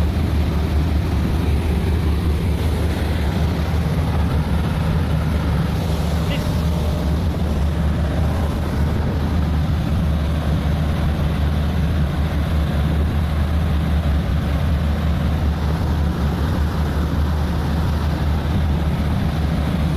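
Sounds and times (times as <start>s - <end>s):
boat diesel engines droning: 0.0s - 19.9s
water rushing: 0.0s - 19.9s.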